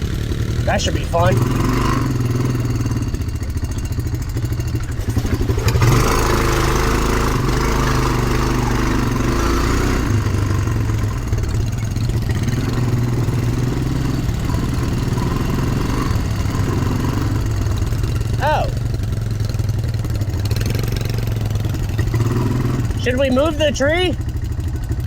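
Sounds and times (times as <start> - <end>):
quad bike engine running: 0.0 - 25.0.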